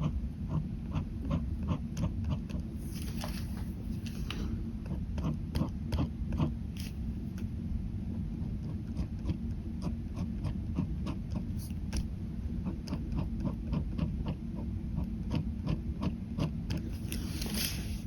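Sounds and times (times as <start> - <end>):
pen scratching on paper: 0.0 - 7.0, 8.4 - 18.0.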